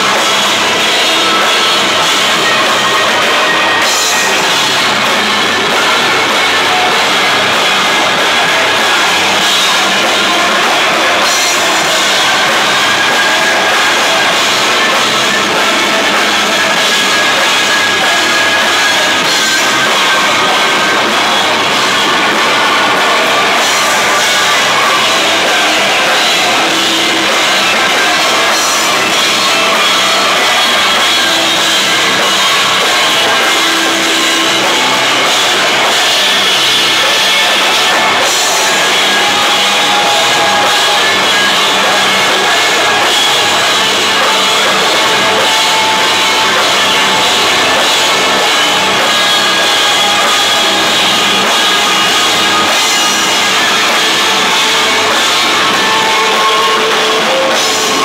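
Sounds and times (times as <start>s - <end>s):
drum kit and crashing cymbals: 0.0s - 58.0s
rock band playing live: 0.0s - 58.0s.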